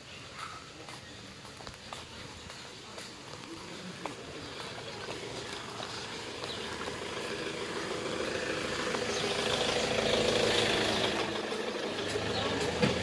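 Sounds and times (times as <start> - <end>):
vehicle engine running: 1.2 - 13.0.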